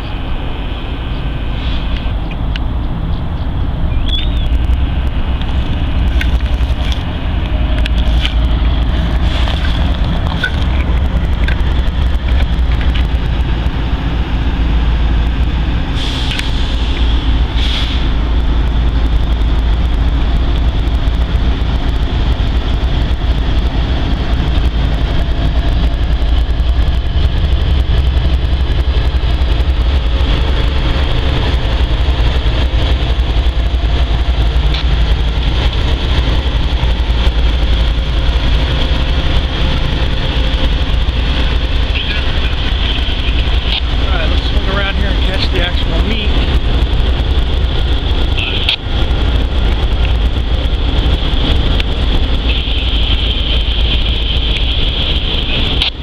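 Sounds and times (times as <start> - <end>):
diesel locomotives rumbling: 0.0 - 56.0.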